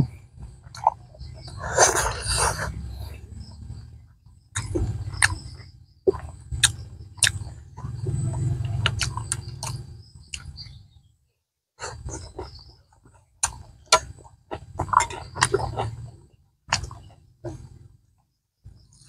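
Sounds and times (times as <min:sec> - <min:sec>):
man chewing wetly: 0:00.0 - 0:03.8, 0:04.5 - 0:10.7, 0:11.8 - 0:17.9.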